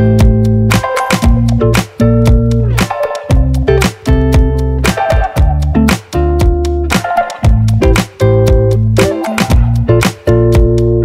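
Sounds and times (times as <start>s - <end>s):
guitar and bass groove: 0.0s - 11.0s.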